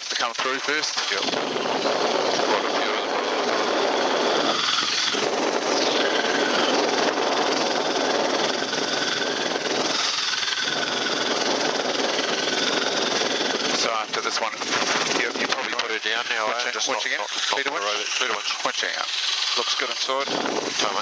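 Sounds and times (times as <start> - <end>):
faint wavering high whine: 0.0 - 21.0
helicopter engine and rotor: 0.0 - 21.0.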